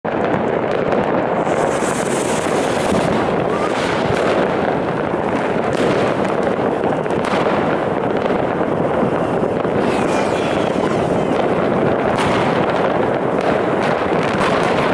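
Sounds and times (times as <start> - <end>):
fireworks and firecrackers bangs: 0.0 - 14.9
firework whistle: 1.2 - 14.9.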